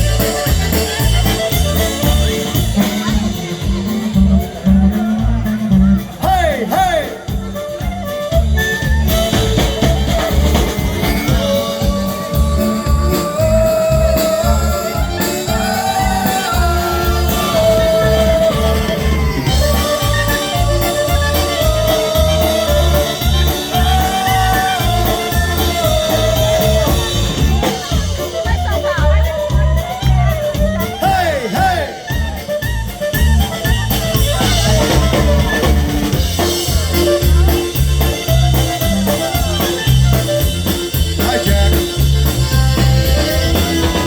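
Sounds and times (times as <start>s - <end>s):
brass polka band playing: 0.0s - 44.0s.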